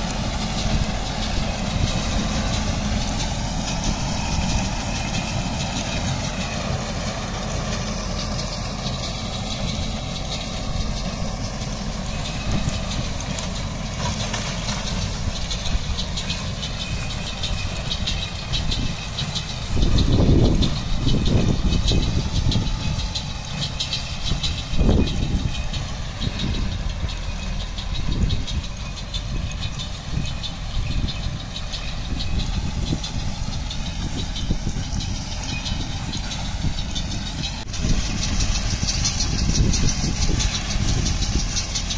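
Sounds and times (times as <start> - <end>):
baler mechanical clatter: 0.0 - 41.9
low rumbles: 0.0 - 41.9
tractor engine running: 0.0 - 41.9.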